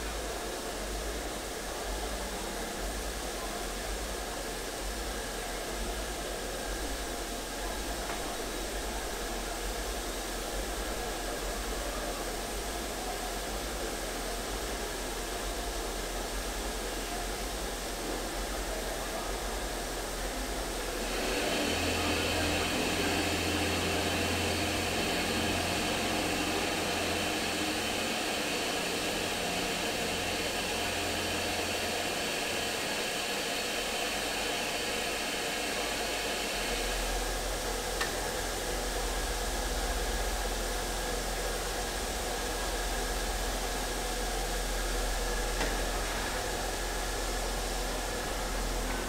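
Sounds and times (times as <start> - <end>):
steam hissing from locomotive: 0.0 - 49.0.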